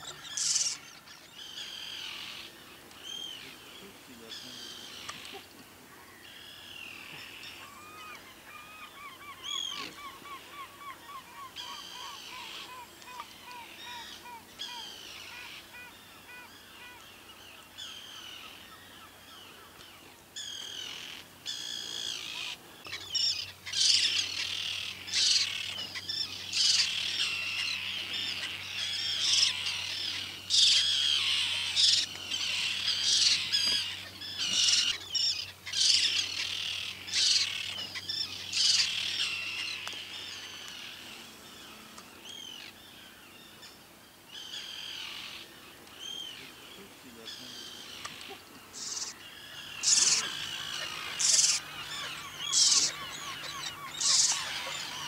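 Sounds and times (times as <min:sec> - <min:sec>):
gulls alarm calls: 0:00.0 - 0:19.8, 0:20.4 - 0:55.0.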